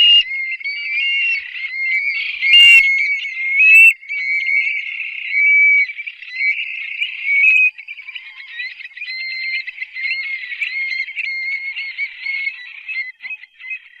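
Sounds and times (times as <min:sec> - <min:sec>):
bird calling whistled notes: 0:00.0 - 0:14.0
fast bird chatter: 0:00.0 - 0:14.0.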